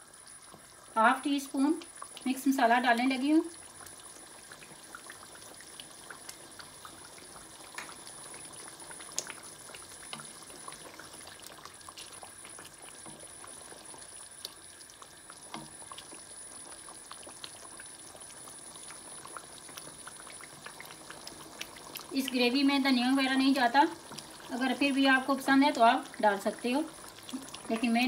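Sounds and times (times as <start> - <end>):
gravy bubbling and popping: 0.0 - 28.0.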